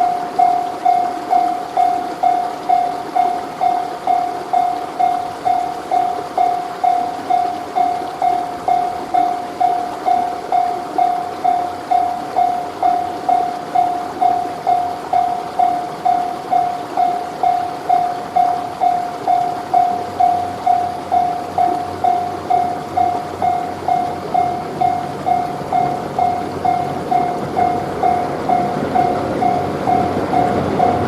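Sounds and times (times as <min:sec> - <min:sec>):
level-crossing warning bell: 0:00.0 - 0:31.0
train noise: 0:00.0 - 0:31.0.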